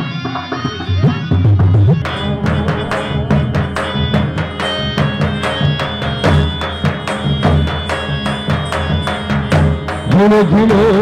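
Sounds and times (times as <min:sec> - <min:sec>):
harmonium melody: 0:00.0 - 0:11.0
hand drum beat: 0:00.8 - 0:11.0.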